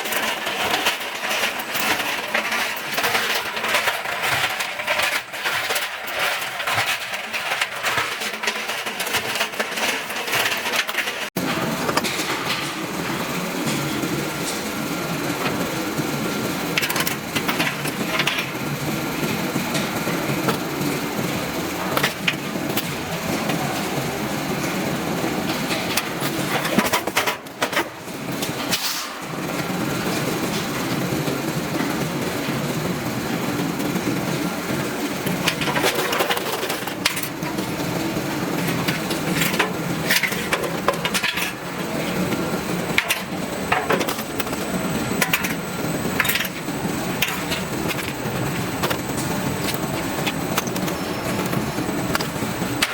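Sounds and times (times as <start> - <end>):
machine rattling: 0.0 - 52.9.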